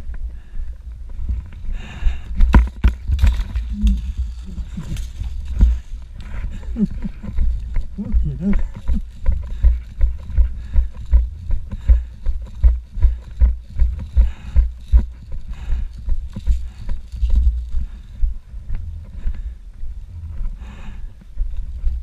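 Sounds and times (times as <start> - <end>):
low thumps of running footsteps: 0.0 - 22.0.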